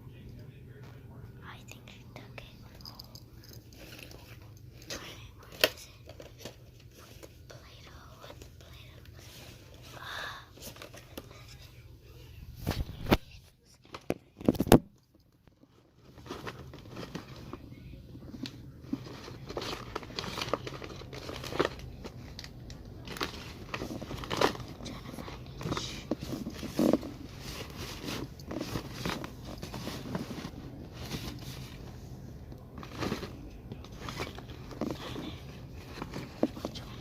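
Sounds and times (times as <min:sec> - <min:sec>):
crinkling handling noises: 0:02.4 - 0:37.0.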